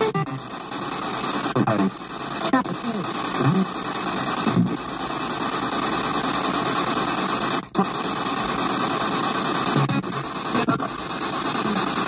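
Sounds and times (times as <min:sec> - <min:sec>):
radio static: 0:00.0 - 0:12.0
snatches of broadcast sound: 0:00.0 - 0:12.0.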